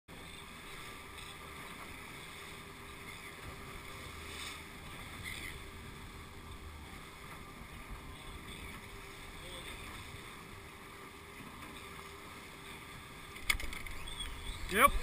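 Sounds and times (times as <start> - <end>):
outboard motor running: 0.1 - 15.0
water rushing in wake: 0.1 - 15.0.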